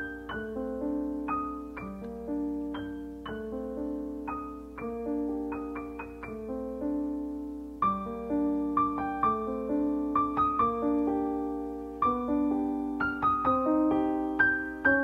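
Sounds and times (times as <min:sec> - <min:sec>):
gentle solo piano melody: 0:00.0 - 0:15.0.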